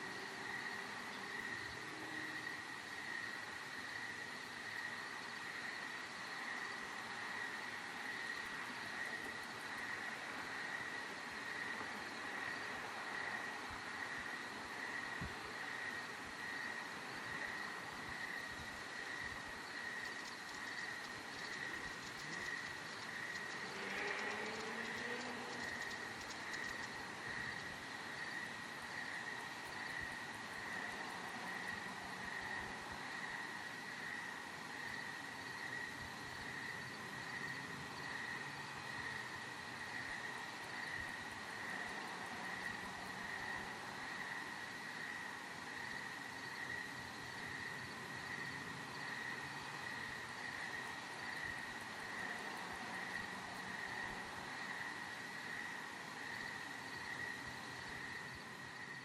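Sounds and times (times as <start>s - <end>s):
crickets trilling: 0.0s - 59.0s
light hiss: 0.0s - 59.0s
night insects chorus: 0.0s - 59.0s.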